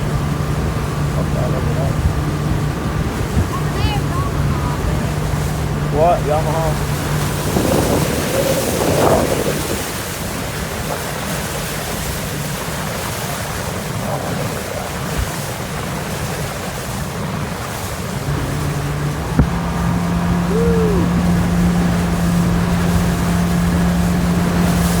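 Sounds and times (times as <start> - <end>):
motorboat engine hum: 0.0 - 25.0
water along boat hull: 0.0 - 25.0
wind on microphone: 0.0 - 25.0.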